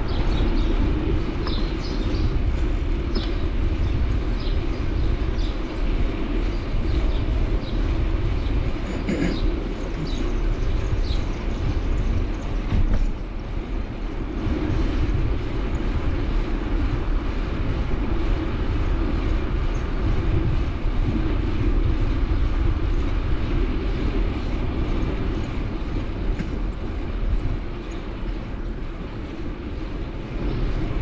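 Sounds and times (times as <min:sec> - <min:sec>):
vehicle rumble and road noise: 0:00.0 - 0:31.0.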